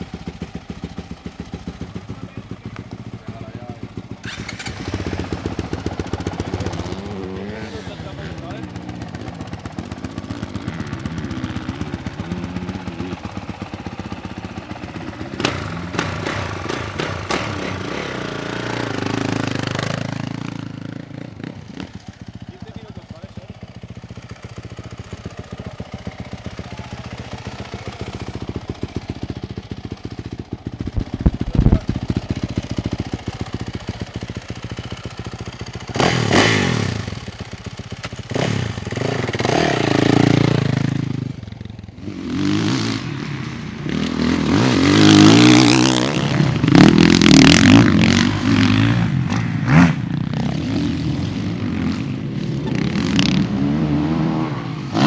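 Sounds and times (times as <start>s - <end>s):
motorbike engine idling: 0.0s - 53.8s
motorbike engines revving: 0.0s - 55.0s.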